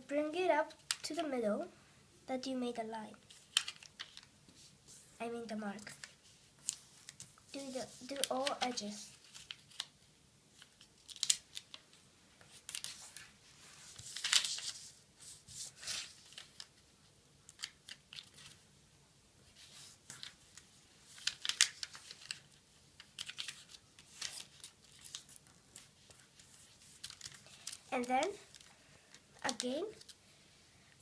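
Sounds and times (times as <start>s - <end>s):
paper rustling and crinkling: 3.3s - 5.1s, 5.7s - 16.9s, 17.5s - 18.6s, 19.4s - 30.2s.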